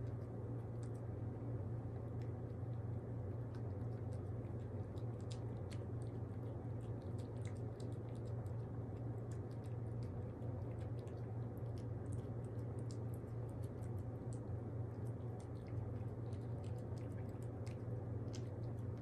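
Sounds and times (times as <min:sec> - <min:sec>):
pet chewing wet food: 0:00.0 - 0:19.0
steady low hum: 0:00.0 - 0:19.0.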